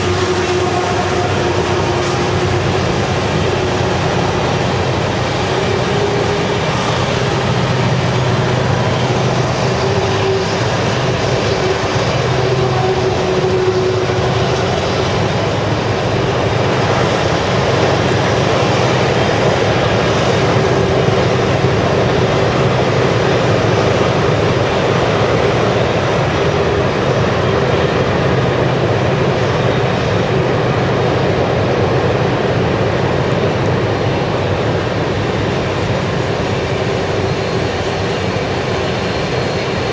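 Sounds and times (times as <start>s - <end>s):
model locomotive engine rumble: 0.0s - 39.9s
model train running noise: 0.0s - 39.9s.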